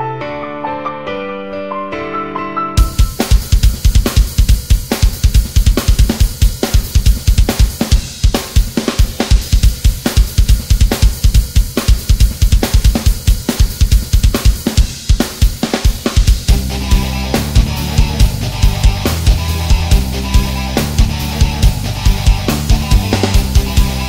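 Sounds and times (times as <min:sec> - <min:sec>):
rock music with drums: 0:02.8 - 0:24.0.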